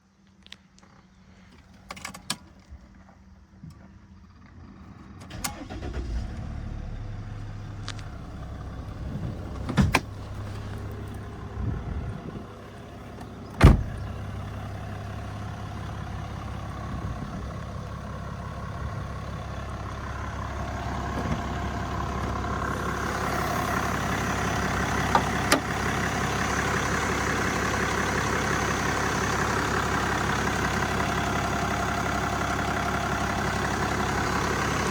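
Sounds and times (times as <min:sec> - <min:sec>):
diesel engine starting and idling: 0:01.3 - 0:34.9
road noise: 0:04.4 - 0:34.9.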